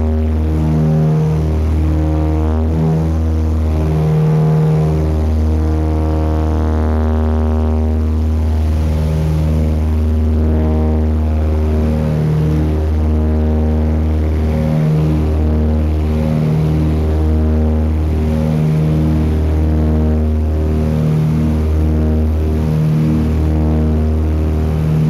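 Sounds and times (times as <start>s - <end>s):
propeller plane cabin drone: 0.0s - 25.0s.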